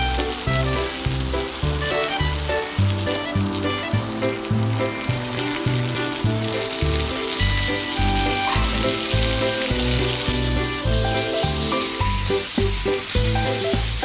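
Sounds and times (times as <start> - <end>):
music with pulsing bass: 0.0 - 14.0
octopus sizzling on hot rock: 0.0 - 14.0.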